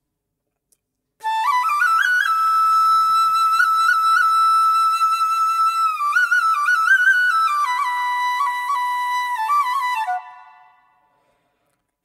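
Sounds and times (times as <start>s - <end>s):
slow flute music: 1.2s - 11.2s.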